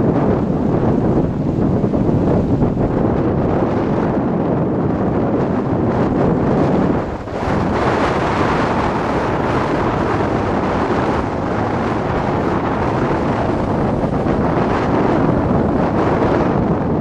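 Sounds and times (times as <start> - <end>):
sea surf washing against rocks: 0.0 - 17.0
wind blowing across microphone: 0.0 - 17.0.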